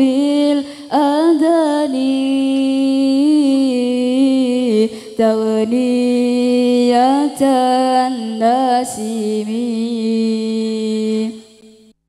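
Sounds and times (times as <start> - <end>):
person singing through microphone: 0.0 - 11.9.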